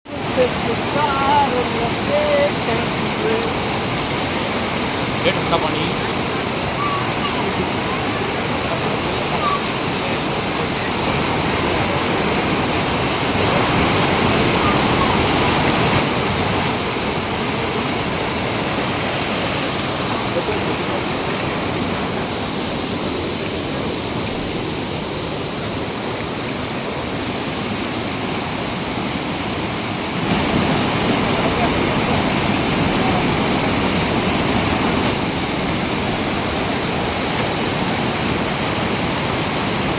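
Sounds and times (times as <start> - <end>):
waterfall pouring: 0.1 - 39.9.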